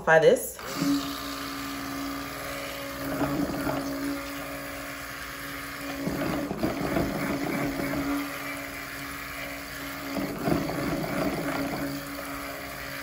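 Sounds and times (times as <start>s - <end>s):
stick blender motor hum: 0.5s - 13.0s
churning and splashing batter: 0.7s - 13.0s.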